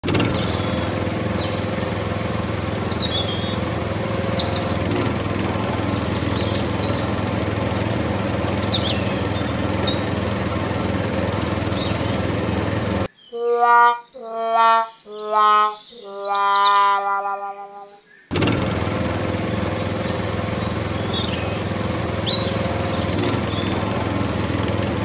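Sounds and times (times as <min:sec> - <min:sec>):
birds chirping: 0:00.1 - 0:18.4, 0:19.0 - 0:25.0.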